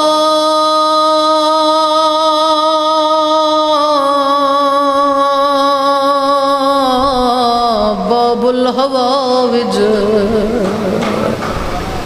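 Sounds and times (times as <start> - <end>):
man chanting into a microphone: 0.0 - 11.6.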